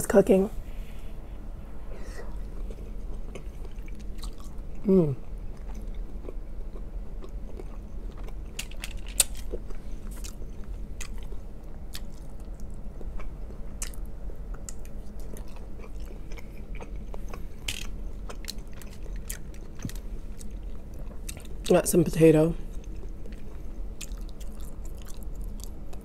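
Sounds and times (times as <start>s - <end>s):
low steady hum: 0.0s - 26.0s
person chewing food: 2.0s - 21.7s, 22.6s - 26.0s.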